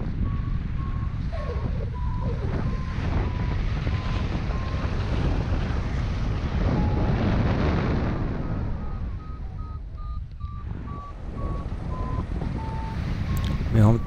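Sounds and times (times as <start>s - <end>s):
variometer beeping: 0.0s - 5.0s, 6.6s - 7.2s, 8.1s - 14.0s
airflow buffeting microphone: 0.0s - 14.0s.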